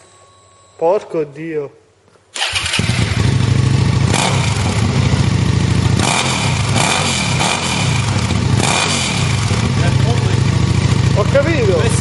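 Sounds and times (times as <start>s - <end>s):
motorcycle engine revving: 2.4s - 12.0s.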